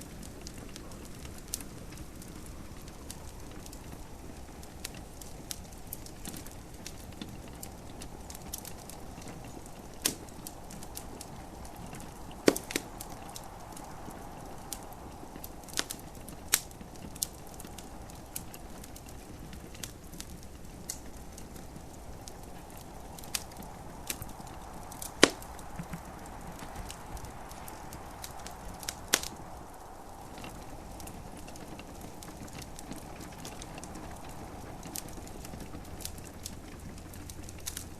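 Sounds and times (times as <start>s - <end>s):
gentle rain hiss: 0.0s - 37.9s
wood fire crackling: 0.0s - 37.9s.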